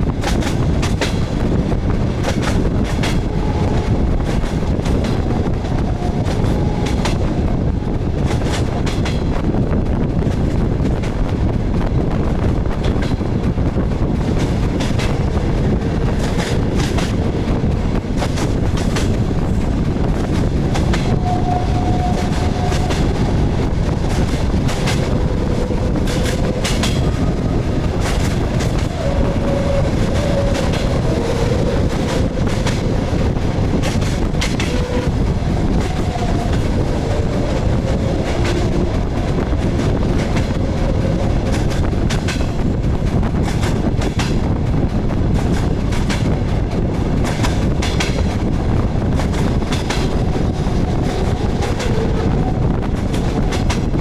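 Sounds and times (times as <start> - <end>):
wheels clicking over rail joints: 0.0 - 11.4, 12.4 - 54.0
wheels rumbling on rails: 0.0 - 54.0.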